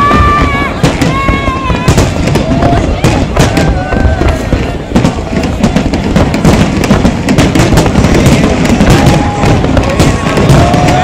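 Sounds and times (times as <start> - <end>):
fireworks crackling: 0.0 - 11.0
low rumble of booms: 0.0 - 11.0.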